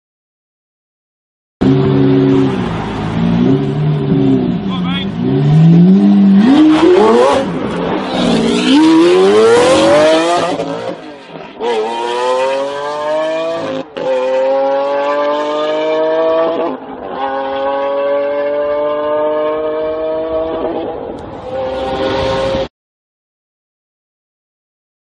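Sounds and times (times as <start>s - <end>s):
car engine revving and accelerating: 1.6s - 22.7s.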